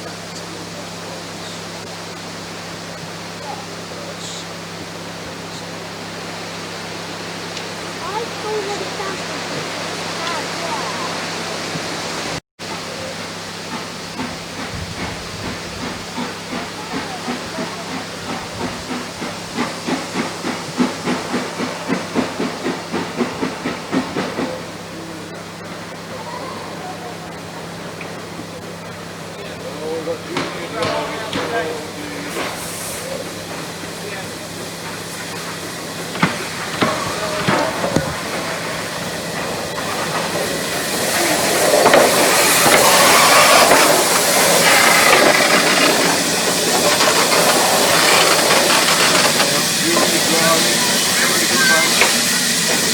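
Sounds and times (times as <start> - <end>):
steam hissing: 0.0 - 52.9
steam locomotive chuffing: 0.0 - 52.9.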